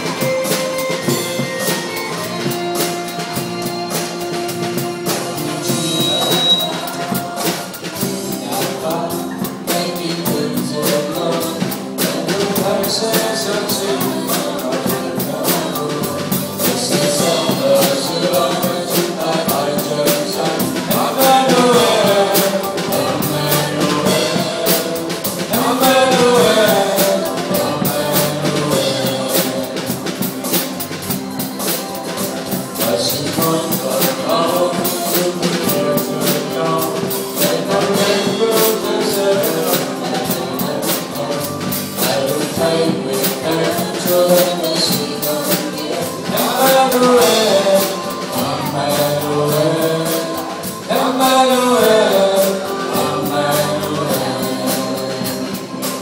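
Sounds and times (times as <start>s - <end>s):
drum kit playing: 0.0s - 56.0s
recorded song with singing: 0.0s - 56.0s.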